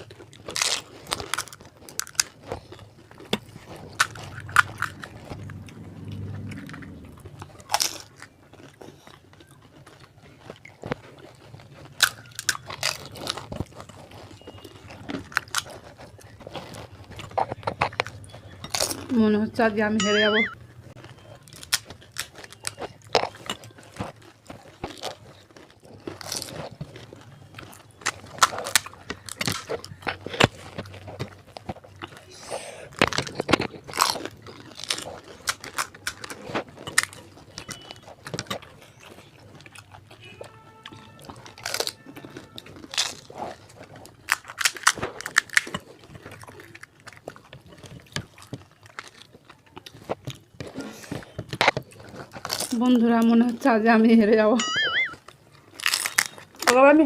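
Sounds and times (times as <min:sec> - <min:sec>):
crunchy shells being chewed: 0:00.0 - 0:57.0.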